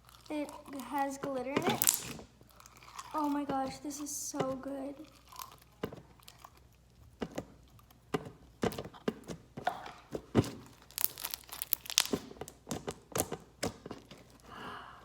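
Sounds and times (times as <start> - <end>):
crunchy slime squished by hand: 0.0 - 14.5.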